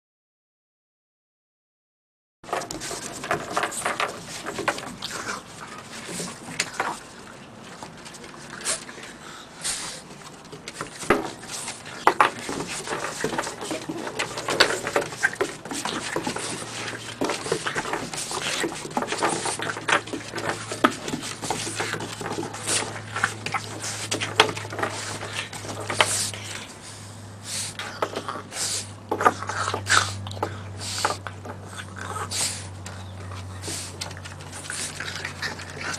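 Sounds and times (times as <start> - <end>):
dog chewing with clicks and taps: 2.5 - 9.2, 9.9 - 26.7, 27.8 - 35.9.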